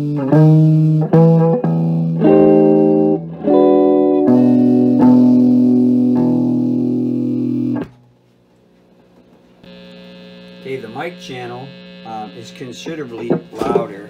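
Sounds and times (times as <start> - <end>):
electric guitar chords: 0.0 - 8.1, 9.6 - 14.0
amplifier mains hum: 0.0 - 14.0.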